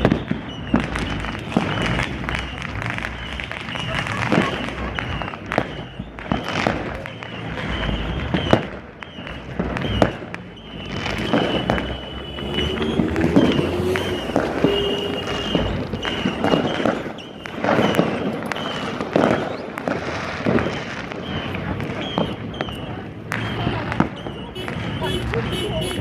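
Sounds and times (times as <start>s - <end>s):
distant fireworks popping: 0.0s - 26.0s
sharp firework bangs: 0.0s - 26.0s.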